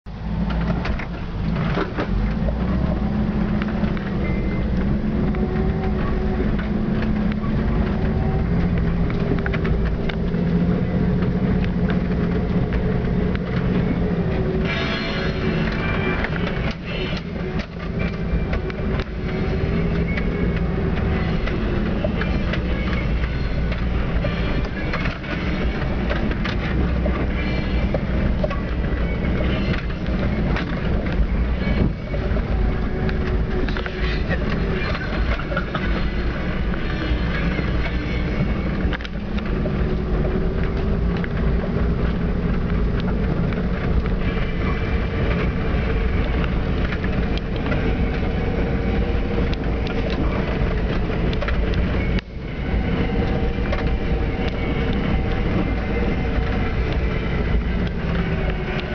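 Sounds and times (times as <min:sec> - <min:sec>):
truck engine running: 0:00.0 - 0:58.9
truck knocks and rattles: 0:00.1 - 0:58.9.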